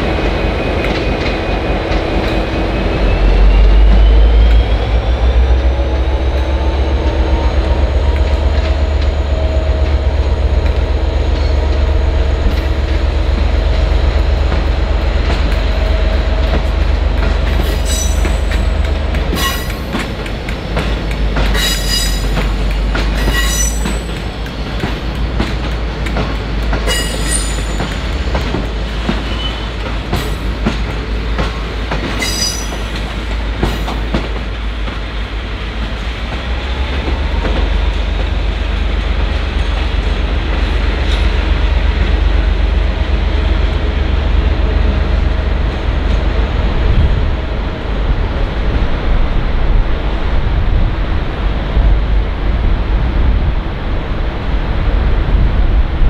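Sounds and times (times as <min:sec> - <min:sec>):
diesel train rumble: 0:00.0 - 0:56.0.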